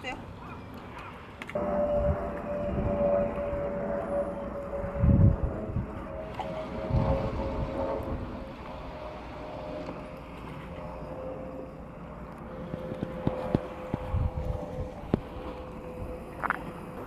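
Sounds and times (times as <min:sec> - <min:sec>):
engine rumbling: 0:01.5 - 0:17.0.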